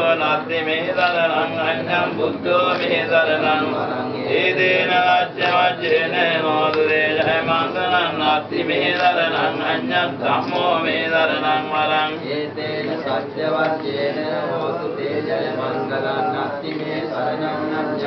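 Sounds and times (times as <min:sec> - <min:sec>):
person chanting melodically: 0:00.0 - 0:18.0.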